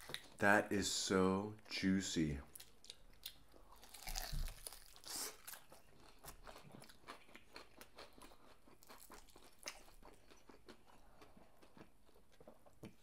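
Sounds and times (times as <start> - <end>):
crunchy fried chicken chewing: 2.6 - 13.0.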